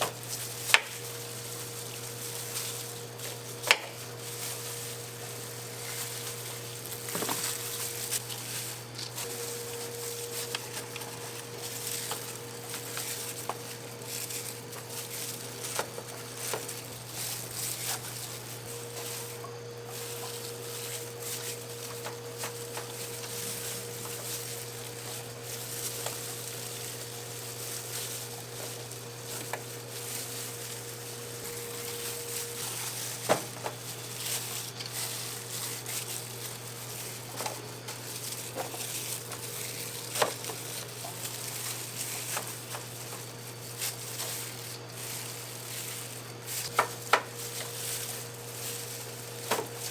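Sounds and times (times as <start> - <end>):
constant low hum: 0.0 - 49.9
fire crackling and sizzling: 0.0 - 49.9.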